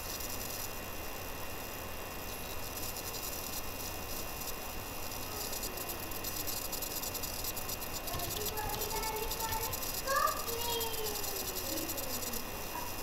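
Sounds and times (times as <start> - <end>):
background hiss: 0.0 - 13.0
high-pitched whine: 0.0 - 13.0
faint ticks: 2.3 - 13.0.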